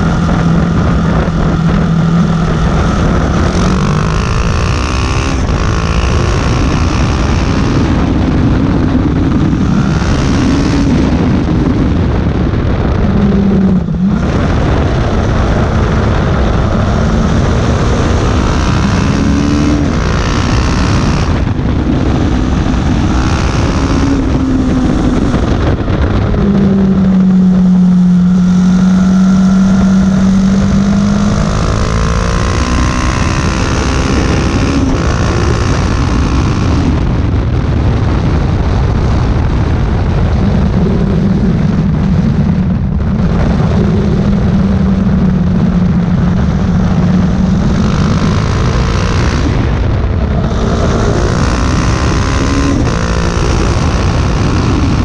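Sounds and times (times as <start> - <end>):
motorcycle engine running hard: 0.0 - 55.0
wind and road noise: 0.0 - 55.0.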